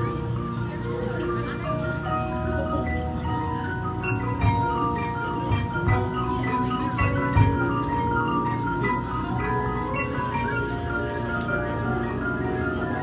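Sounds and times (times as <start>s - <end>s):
marimbas and mallet percussion: 0.0s - 13.0s.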